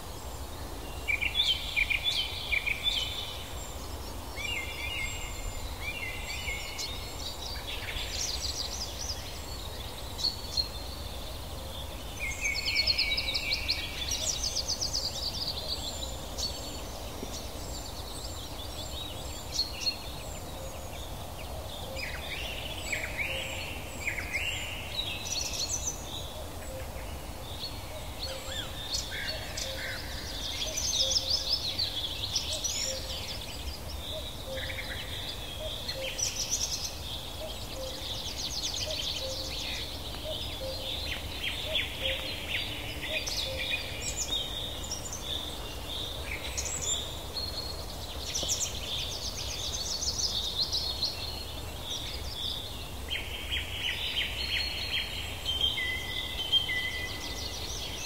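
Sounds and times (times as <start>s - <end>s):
low background noise: 0.0s - 58.0s
songbirds singing: 0.0s - 58.0s.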